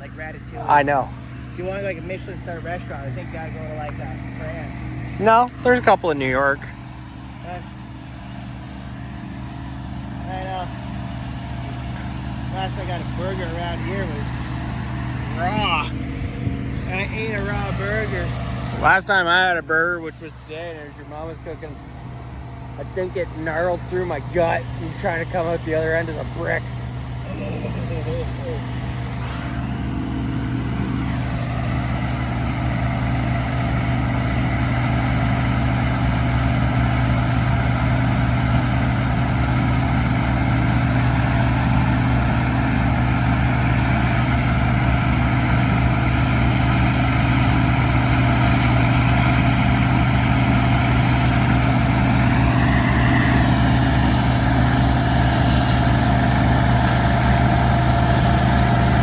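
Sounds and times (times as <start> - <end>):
harvester engine droning: 0.0 - 59.0.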